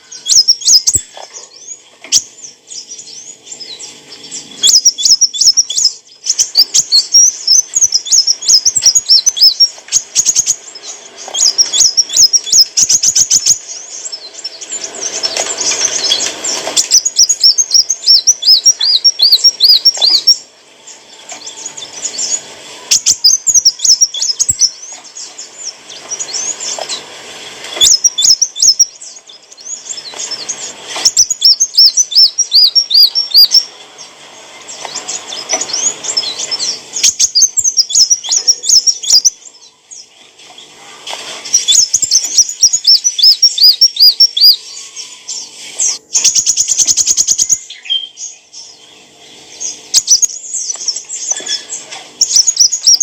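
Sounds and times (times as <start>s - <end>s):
sunbird singing high chirps: 0.0s - 53.0s.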